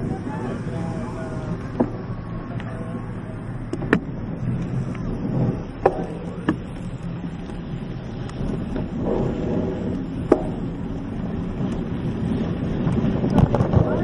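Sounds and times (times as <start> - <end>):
mountain bike tyres rumbling: 0.0 - 14.0.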